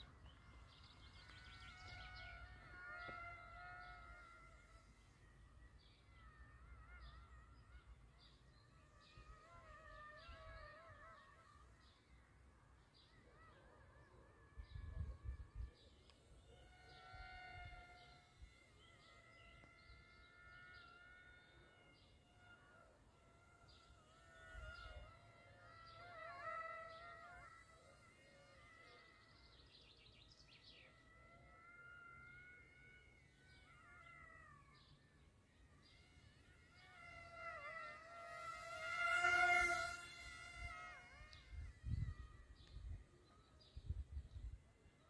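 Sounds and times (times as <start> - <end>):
model airplane motor whine: 0.0 - 44.6.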